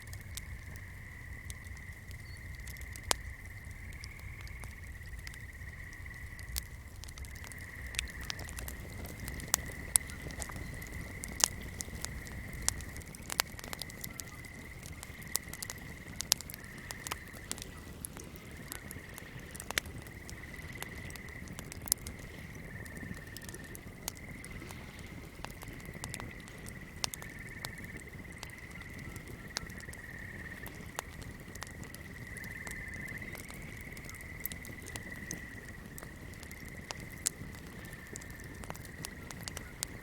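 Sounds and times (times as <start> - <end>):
candle crackling: 1.6 - 40.0.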